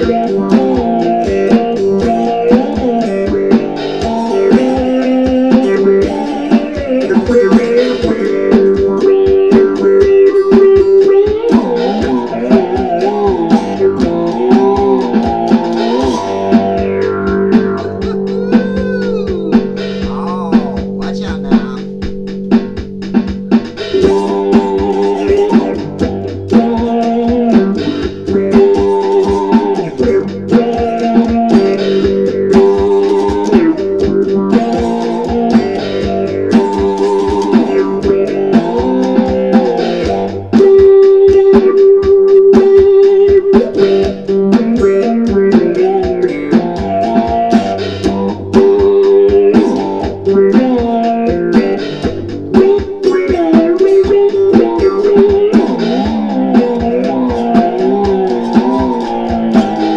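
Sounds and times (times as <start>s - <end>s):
electric guitar funky wah riff: 0.0s - 59.9s.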